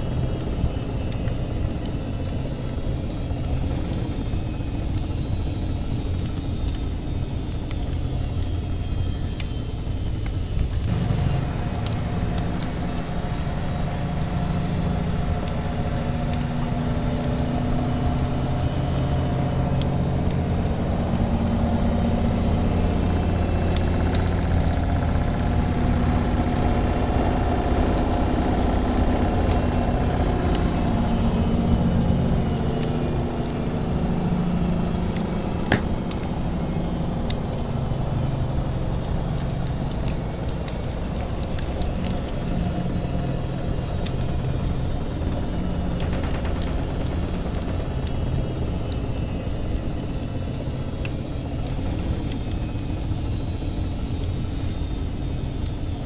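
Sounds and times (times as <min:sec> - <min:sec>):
wood fire crackling: 0:00.0 - 0:56.0
washing machine rumbling: 0:10.0 - 0:56.0.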